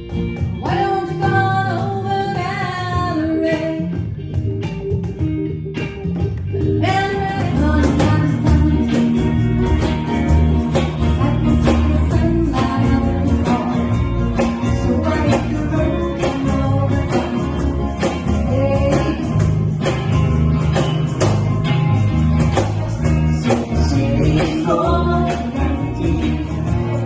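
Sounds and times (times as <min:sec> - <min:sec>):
pop band playing: 0:00.0 - 0:27.0.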